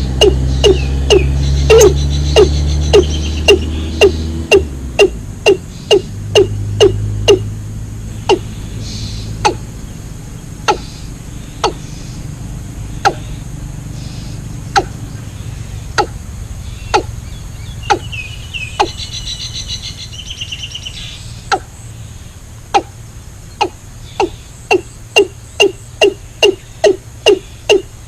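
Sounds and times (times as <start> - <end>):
birds chirping: 0.0 - 28.0
steady low hum: 0.0 - 28.0.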